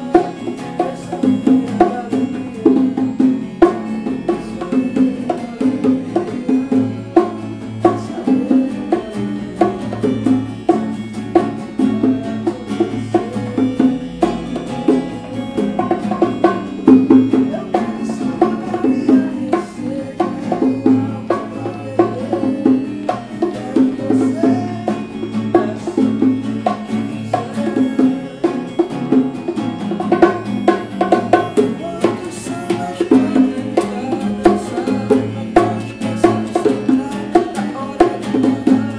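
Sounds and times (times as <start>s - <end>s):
acoustic guitar picking: 0.0s - 38.9s
bongos: 0.0s - 38.9s
keyboard: 0.0s - 38.9s.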